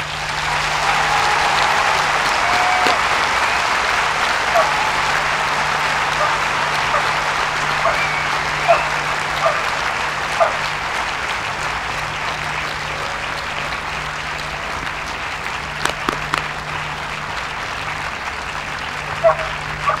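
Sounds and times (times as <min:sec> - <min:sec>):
crowd applauding: 0:00.0 - 0:20.0
sharp single claps: 0:00.4 - 0:11.2, 0:11.9 - 0:20.0.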